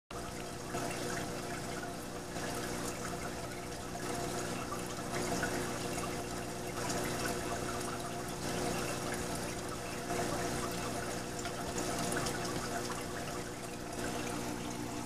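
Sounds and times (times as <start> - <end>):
pumps humming: 0.1 - 15.0
water trickling and splashing: 0.1 - 15.0.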